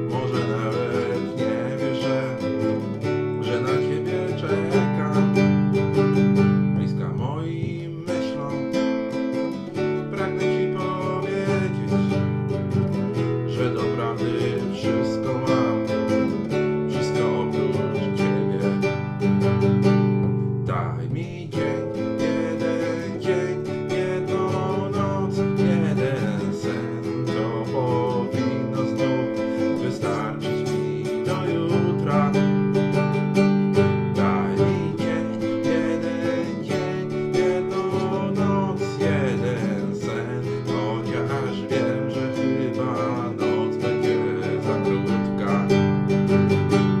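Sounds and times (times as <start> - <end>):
man singing: 0.0 - 19.9, 20.6 - 47.0
strummed nylon-string guitar: 0.0 - 47.0.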